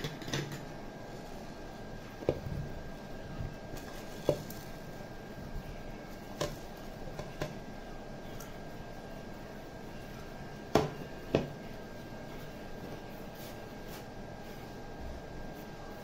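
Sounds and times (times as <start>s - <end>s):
faint room hum with high tone: 0.0s - 16.0s.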